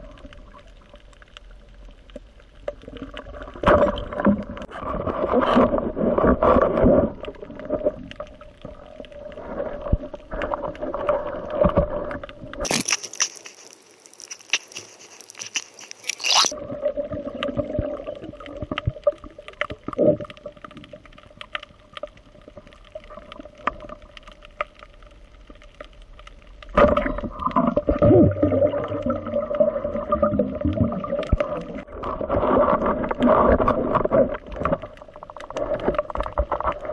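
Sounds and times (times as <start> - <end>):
rough underwater noise: 0.0 - 36.9.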